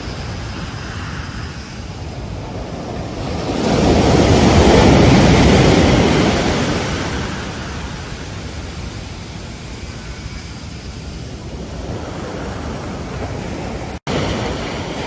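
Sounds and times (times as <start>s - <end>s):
wave breaking: 0.0s - 8.7s, 10.1s - 15.0s
ocean surf on a beach: 0.0s - 15.0s.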